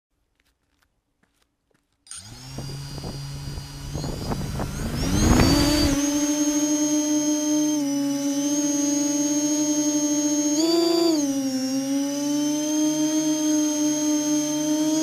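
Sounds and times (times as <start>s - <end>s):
drone motors whining: 2.1s - 15.0s.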